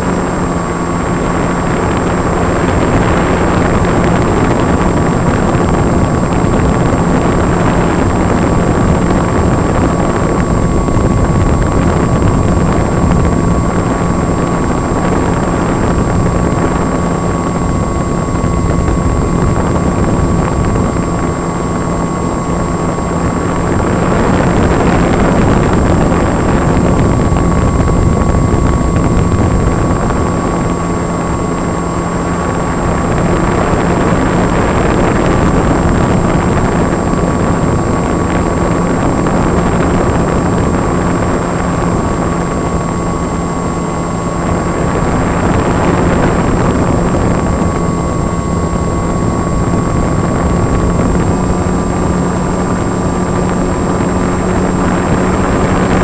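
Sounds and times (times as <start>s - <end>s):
electric motor and propeller whine: 0.0s - 56.0s
rushing wind: 0.0s - 56.0s.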